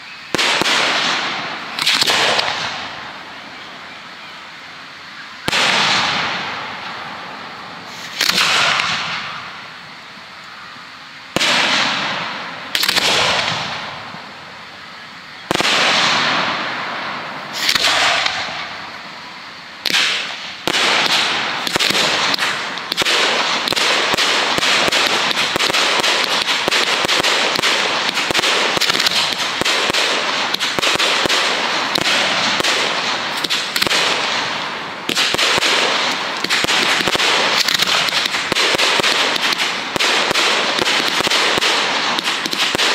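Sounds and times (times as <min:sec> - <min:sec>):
fireworks bangs: 0:00.0 - 0:42.9
fireworks crackling: 0:00.0 - 0:42.9.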